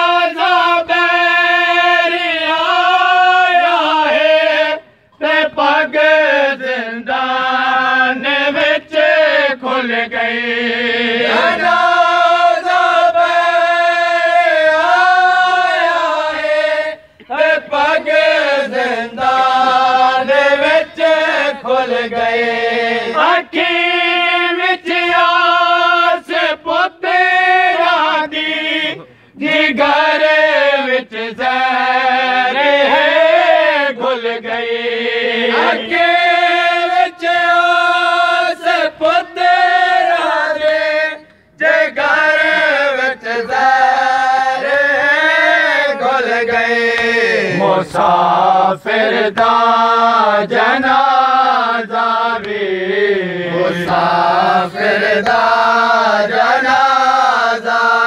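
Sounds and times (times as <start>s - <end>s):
men chanting a lament: 0.0s - 58.0s.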